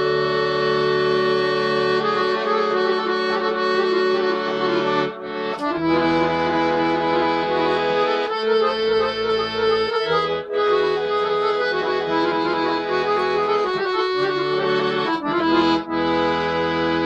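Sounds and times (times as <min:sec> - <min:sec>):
accordion playing a tune: 0:00.0 - 0:17.0.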